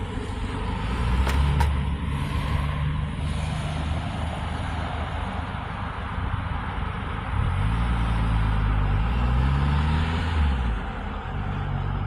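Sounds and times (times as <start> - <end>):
road traffic passing: 0.0 - 12.0
vehicle engine rumble: 0.0 - 12.0.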